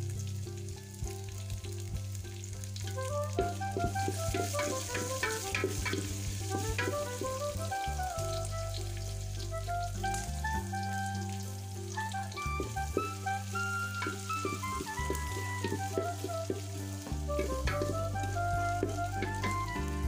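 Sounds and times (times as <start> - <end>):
background music: 0.0 - 20.0
vegetables sizzling in oil: 0.0 - 20.0.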